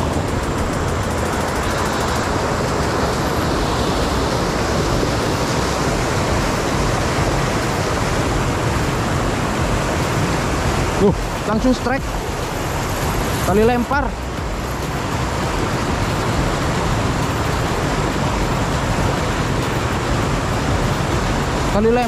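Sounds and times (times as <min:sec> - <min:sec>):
river rushing over rapids: 0:00.0 - 0:22.0.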